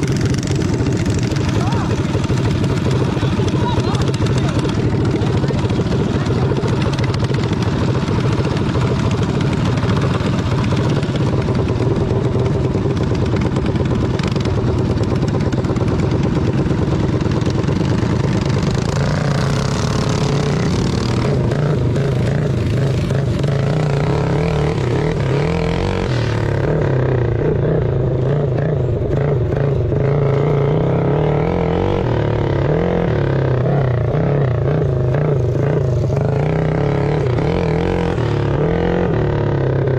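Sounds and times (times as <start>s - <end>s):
engines running: 0.0s - 39.9s.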